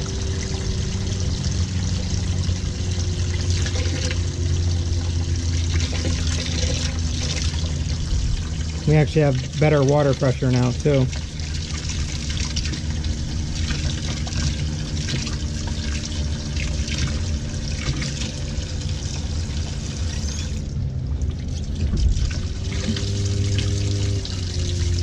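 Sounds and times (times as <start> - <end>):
steady low hum: 0.0 - 25.0
water running into sink: 0.0 - 25.0.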